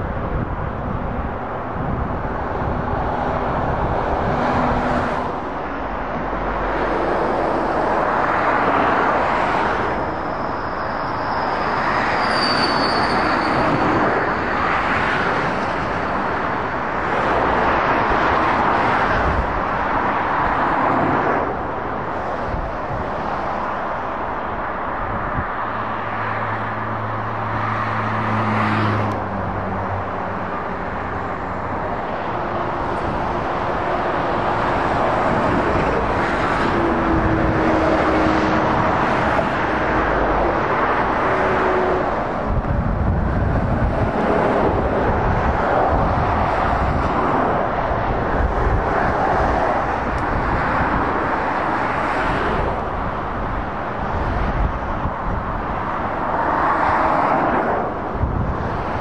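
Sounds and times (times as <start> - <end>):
motorway traffic passing: 0.0 - 59.0.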